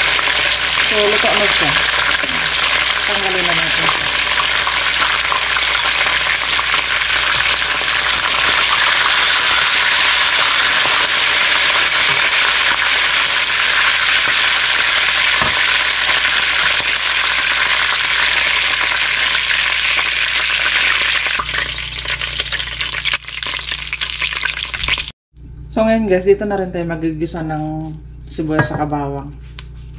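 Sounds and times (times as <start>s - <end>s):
chicken sizzling in hot oil: 0.0s - 25.1s
oil bubbling: 0.0s - 25.1s.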